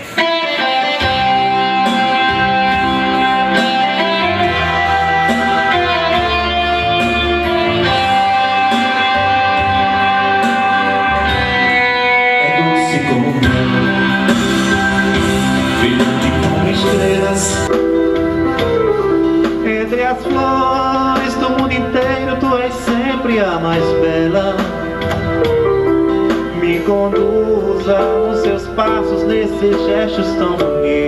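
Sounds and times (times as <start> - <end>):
bass line: 0.0 - 31.0
guitar: 0.0 - 31.0
sustained keyboard notes: 0.0 - 31.0.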